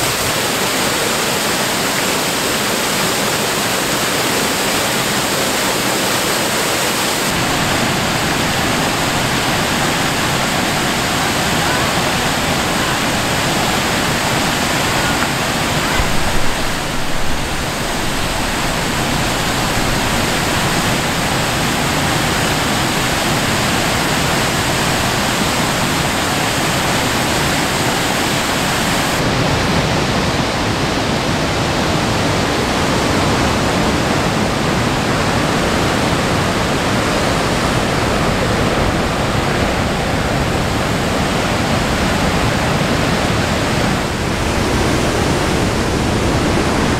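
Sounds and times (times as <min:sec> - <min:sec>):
waterfall rushing over rock: 0:00.0 - 0:46.9.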